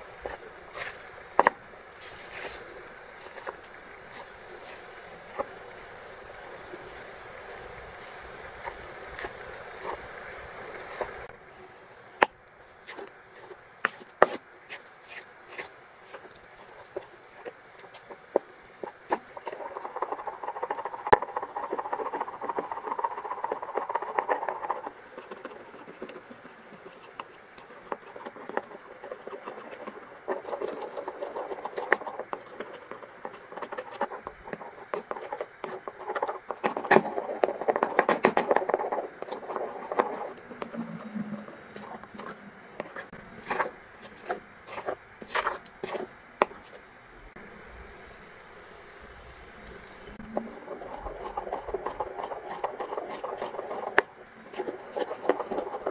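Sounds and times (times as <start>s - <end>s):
stirring and scraping in bowl: 0.0s - 11.4s, 12.2s - 47.5s, 50.0s - 55.9s.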